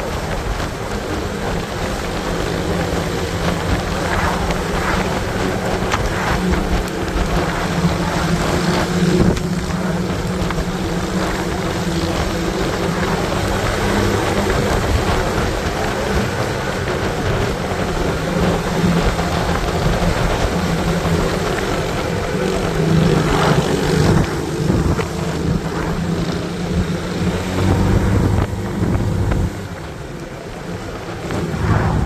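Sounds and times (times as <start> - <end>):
motorcycle engine droning: 0.0 - 32.0
wind buffeting microphone: 0.0 - 32.0.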